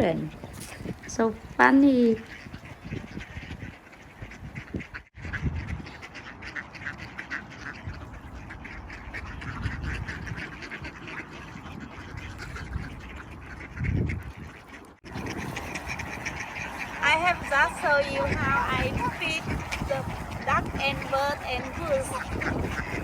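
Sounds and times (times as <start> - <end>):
ducks quacking: 0.0 - 23.0.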